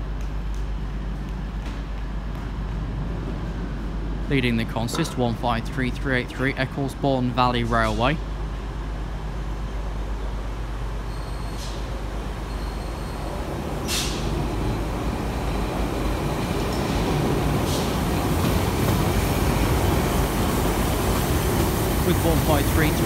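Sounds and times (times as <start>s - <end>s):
diesel train engine and wheel rumble: 0.0s - 23.0s.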